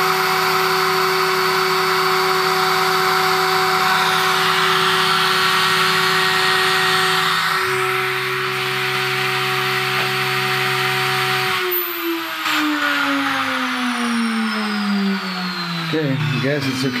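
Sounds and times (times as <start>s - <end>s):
router spindle whine: 0.0s - 17.0s
stepper motors humming: 1.8s - 17.0s.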